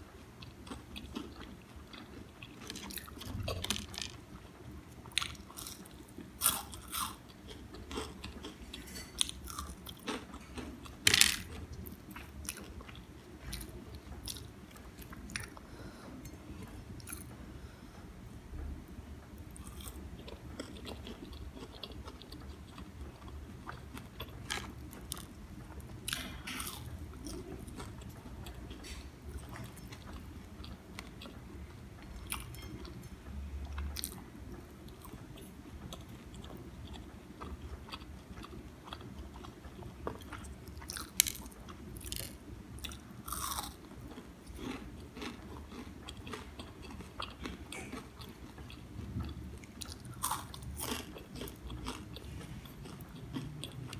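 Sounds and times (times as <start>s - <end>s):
chewing crispy food: 0.2s - 15.7s, 19.5s - 33.0s, 33.7s - 53.9s.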